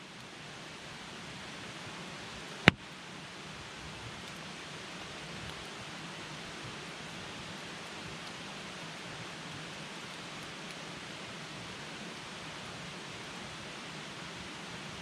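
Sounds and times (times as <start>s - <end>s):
campfire burning: 1.0s - 14.3s.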